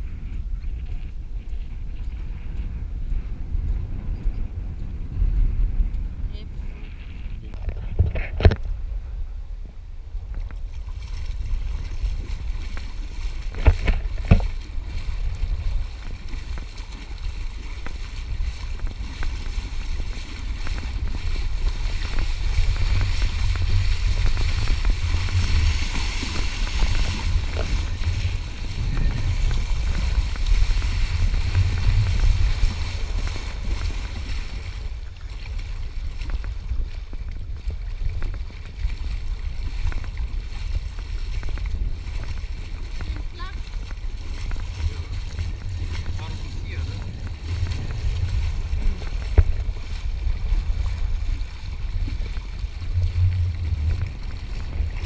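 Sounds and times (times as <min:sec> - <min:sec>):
wind buffeting microphone: 0:00.0 - 0:55.0
water splashing around wading legs: 0:10.3 - 0:55.0.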